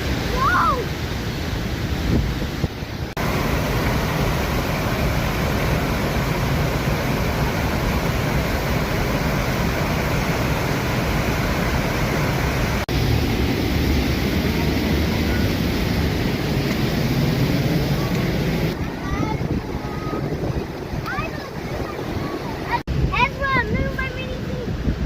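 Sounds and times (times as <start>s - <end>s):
waterfall rushing: 0.0s - 24.8s.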